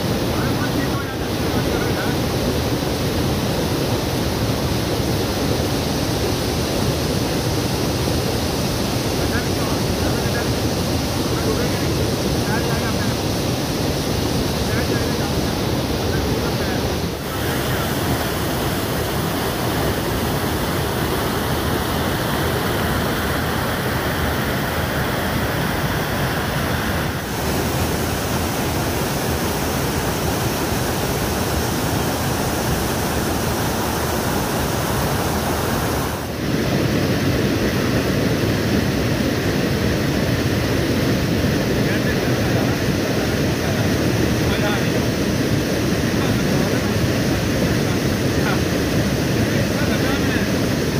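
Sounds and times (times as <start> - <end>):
waterfall pouring over rocks: 0.0 - 41.0, 41.8 - 50.9.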